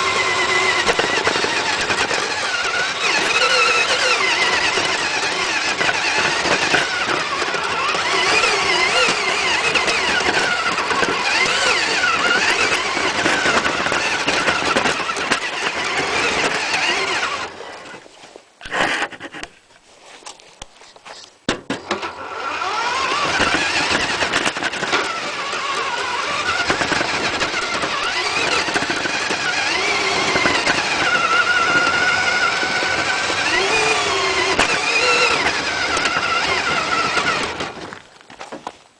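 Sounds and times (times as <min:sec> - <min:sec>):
radio-controlled truck motor: 0:00.0 - 0:18.0, 0:21.9 - 0:38.0.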